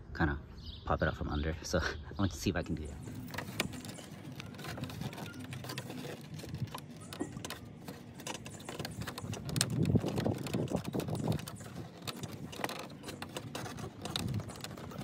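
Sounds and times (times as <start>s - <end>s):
plastic grille clicking and rattling: 2.8s - 15.0s.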